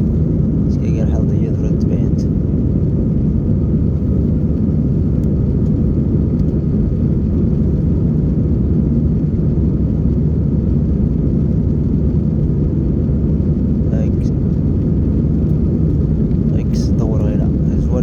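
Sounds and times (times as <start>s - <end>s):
jet engine roar in cabin: 0.0s - 18.0s.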